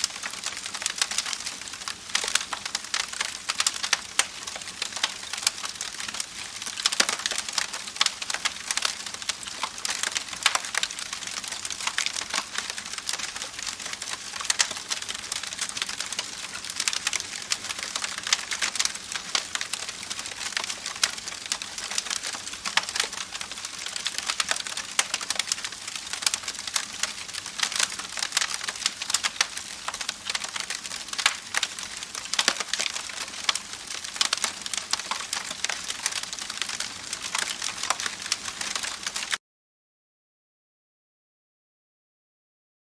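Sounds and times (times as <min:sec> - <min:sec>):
campfire crackling and popping: 0:00.0 - 0:39.4.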